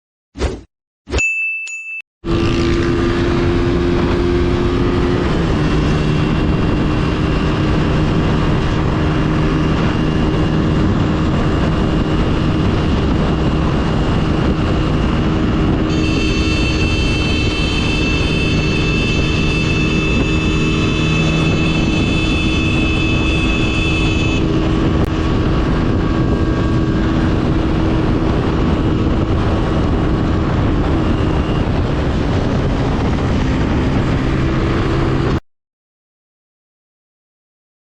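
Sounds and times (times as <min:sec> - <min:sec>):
motorcycle engine running: 0:02.2 - 0:35.2
wind rushing over microphone: 0:02.3 - 0:35.4.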